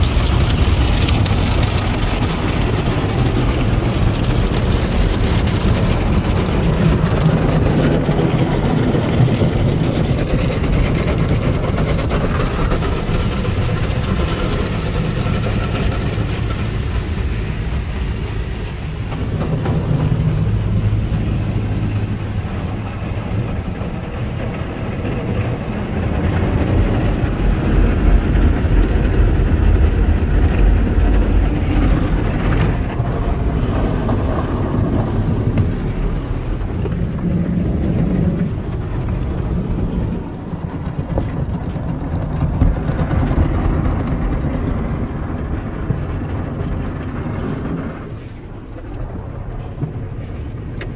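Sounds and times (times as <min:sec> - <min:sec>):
car wash machinery and water: 0:00.0 - 0:50.9.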